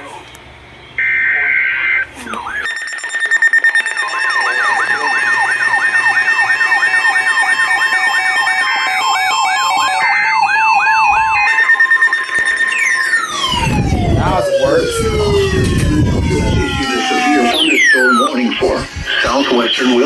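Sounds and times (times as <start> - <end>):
electronic siren alert tone: 2.5 - 20.0.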